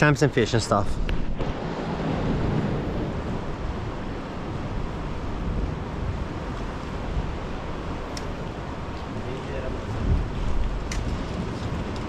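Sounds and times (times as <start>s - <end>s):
ocean surf: 0.0s - 12.0s
wind rumbling on microphone: 0.0s - 12.0s.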